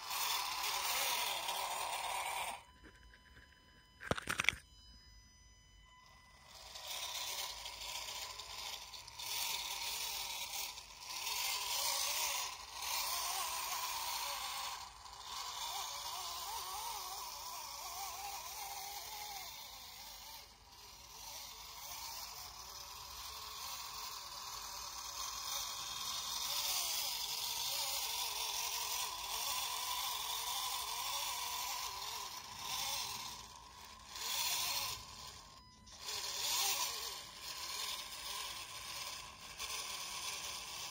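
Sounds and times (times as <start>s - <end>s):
toy truck electric motor whining: 0.0s - 40.9s.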